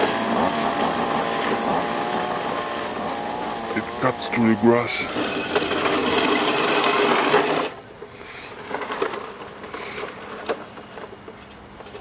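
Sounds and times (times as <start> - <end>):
reel mower blades whirring: 0.0 - 11.0.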